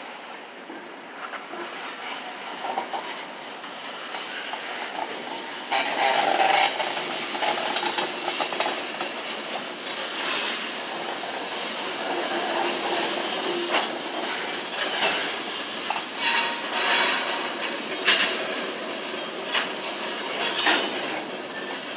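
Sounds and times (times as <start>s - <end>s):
train wheels clicking on rails: 0.1s - 21.9s.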